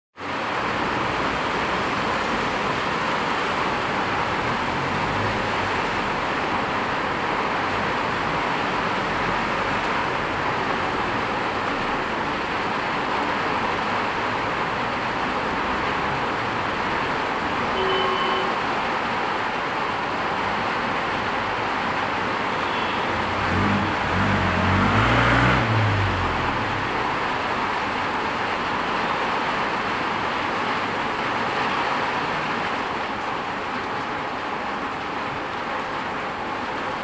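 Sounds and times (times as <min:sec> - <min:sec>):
heavy rain: 0:00.2 - 0:37.0
tyres swishing on wet road: 0:00.2 - 0:37.0.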